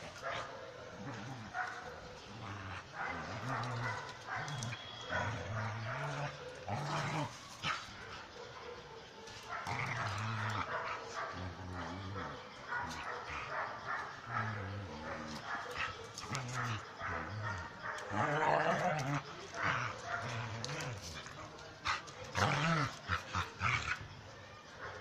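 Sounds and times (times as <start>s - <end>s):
dogs growling: 0.0s - 24.1s
dogs barking: 0.0s - 25.0s.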